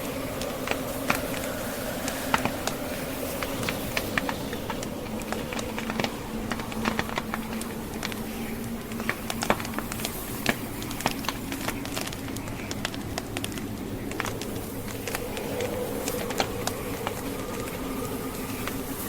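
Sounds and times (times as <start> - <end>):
howling blizzard wind: 0.0 - 19.0
log fire crackling and popping: 0.0 - 19.0.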